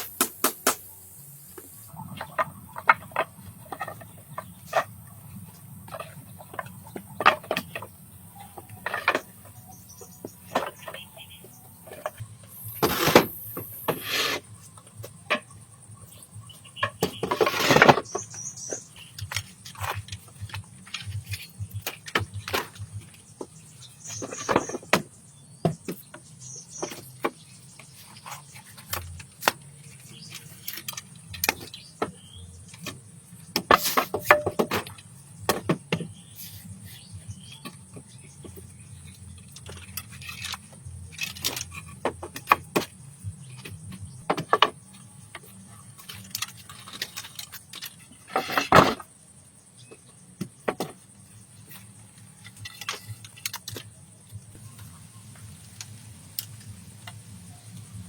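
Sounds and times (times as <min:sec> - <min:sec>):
hand tools knocking and scraping: 0:01.6 - 0:49.1, 0:49.8 - 0:54.4.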